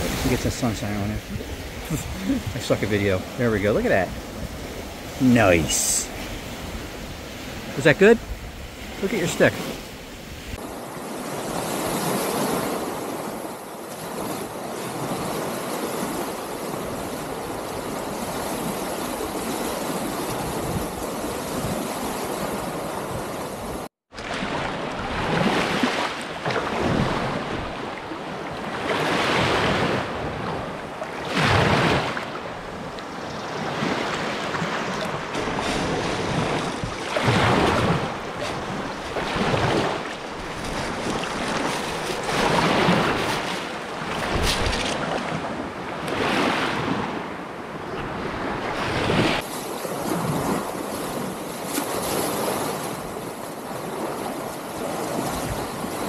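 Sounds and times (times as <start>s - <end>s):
waves washing over sand: 0.0s - 56.0s.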